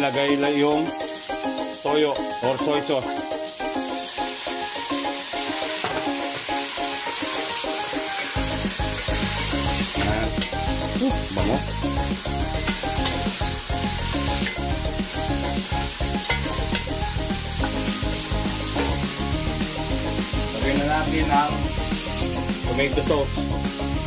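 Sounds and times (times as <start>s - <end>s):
background music with beat: 0.0s - 24.0s
meat sizzling in a pot: 0.0s - 24.0s.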